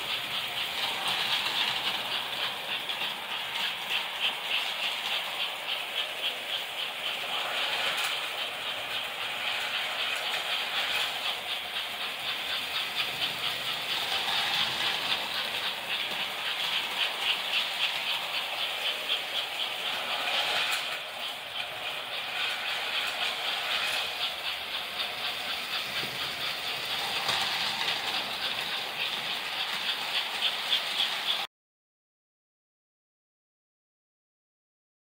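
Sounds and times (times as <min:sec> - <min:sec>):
toy trains clattering on metal track: 0:00.0 - 0:31.5.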